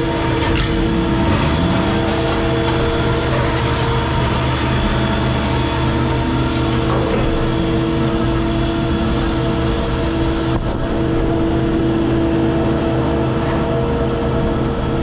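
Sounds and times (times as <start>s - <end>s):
heavy machinery humming: 0.0s - 15.0s.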